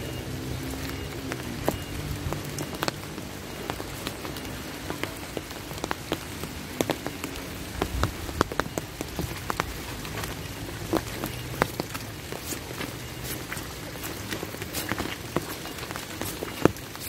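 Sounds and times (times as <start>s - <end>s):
rain falling: 0.0s - 17.0s
raindrops ticking on umbrella: 0.0s - 17.0s.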